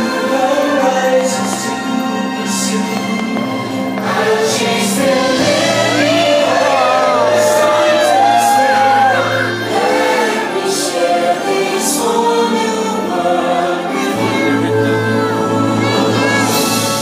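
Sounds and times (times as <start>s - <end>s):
choir singing long held notes: 0.0s - 17.0s.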